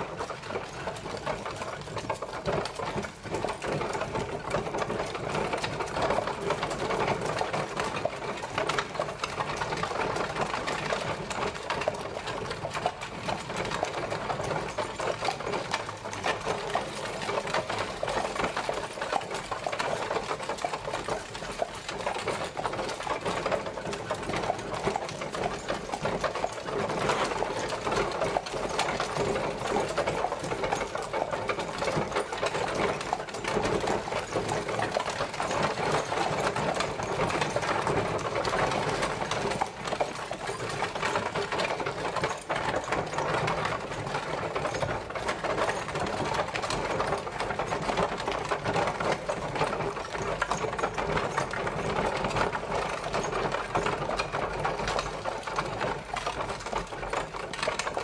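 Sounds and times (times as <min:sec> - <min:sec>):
carriage wheels rattling: 0:00.0 - 0:58.0.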